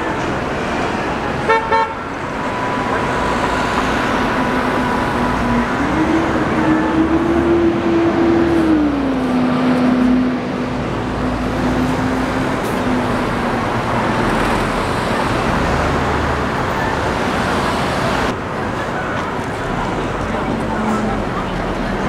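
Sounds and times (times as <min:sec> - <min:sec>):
road traffic: 0:00.0 - 0:22.0
vehicle engine humming: 0:00.0 - 0:22.0.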